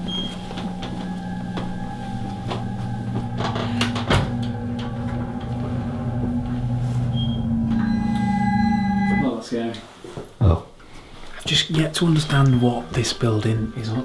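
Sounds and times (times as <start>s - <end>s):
organ-like background music: 0.0s - 9.3s, 11.7s - 14.0s.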